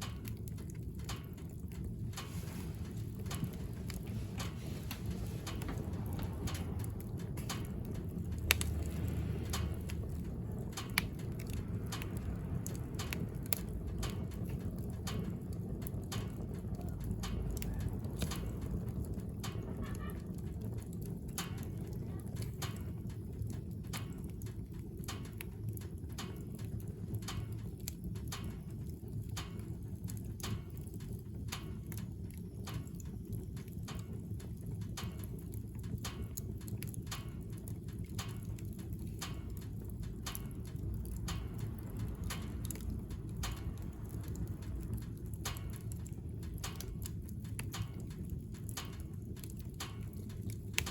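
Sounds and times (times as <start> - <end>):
low rumble: 0.0 - 50.9
wood fire crackling: 0.0 - 50.9.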